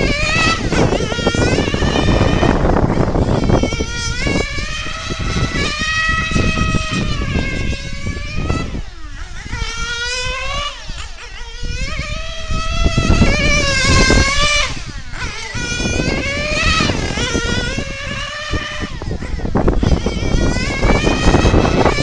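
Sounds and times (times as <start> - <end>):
rc car engine revving: 0.0 - 22.0.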